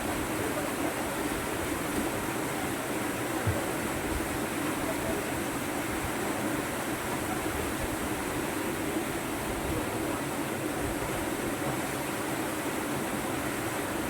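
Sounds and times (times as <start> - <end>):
swift river water: 0.0 - 14.0.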